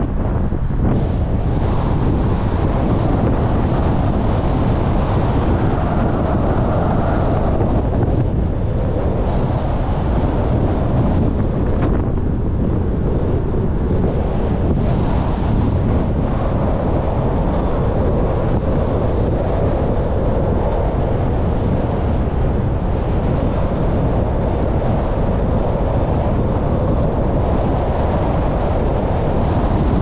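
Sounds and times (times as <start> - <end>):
car road noise: 0.0 - 30.0
wind buffeting microphone: 0.0 - 30.0.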